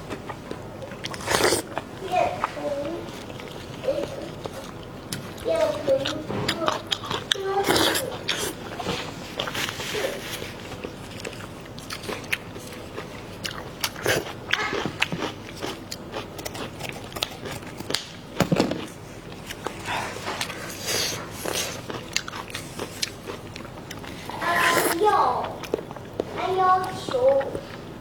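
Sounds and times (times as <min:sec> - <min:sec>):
person chewing and biting food: 0:00.1 - 0:02.5, 0:03.1 - 0:18.1, 0:18.8 - 0:26.3.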